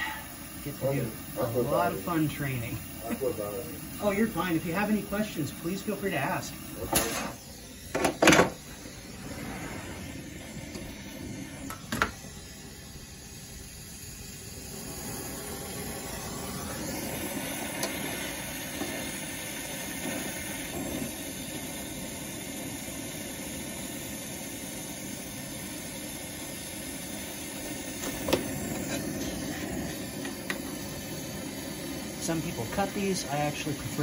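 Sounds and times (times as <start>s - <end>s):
torch flame hissing: 0.0s - 34.0s.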